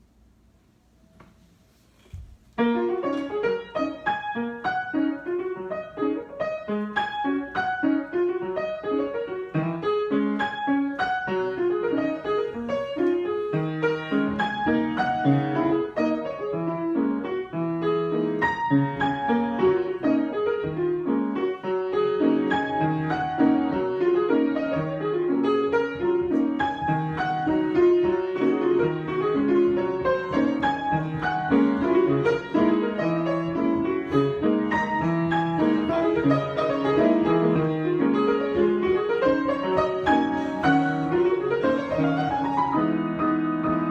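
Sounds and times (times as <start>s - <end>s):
piano improvisation: 0.7s - 43.9s.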